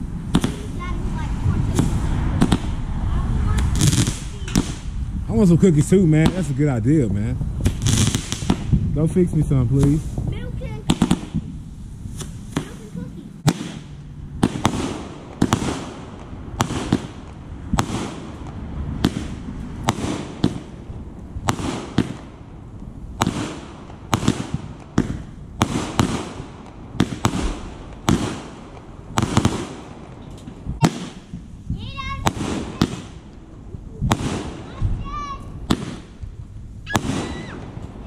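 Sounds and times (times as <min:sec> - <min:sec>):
fireworks bangs: 0:00.0 - 0:38.0
rumbling wash: 0:00.0 - 0:38.0.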